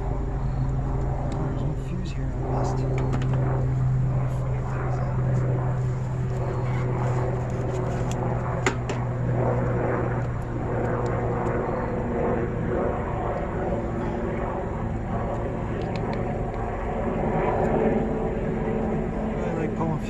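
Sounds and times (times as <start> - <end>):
engine-like drone: 0.0 - 20.0
pitched hum: 0.0 - 20.0.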